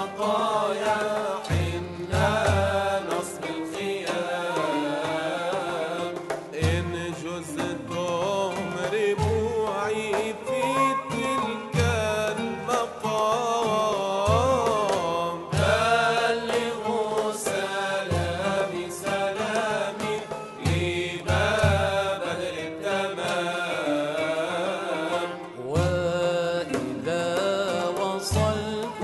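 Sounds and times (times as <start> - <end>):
male voices singing devotional song: 0.0 - 29.0.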